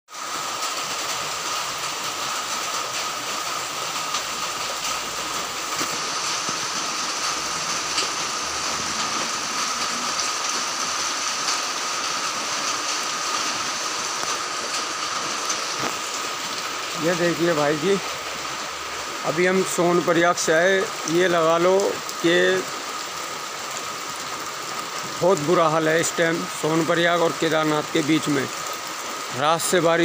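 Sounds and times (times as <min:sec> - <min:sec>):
heavy rain hissing: 0:00.1 - 0:30.0.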